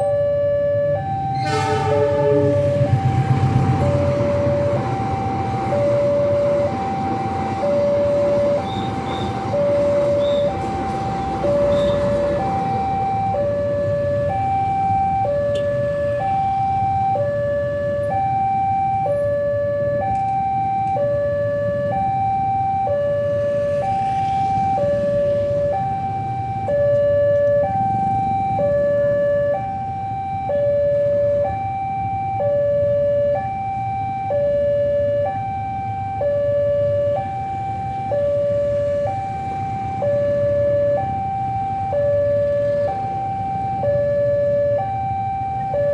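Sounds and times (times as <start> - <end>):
two-tone level crossing alarm: 0.0 - 45.9.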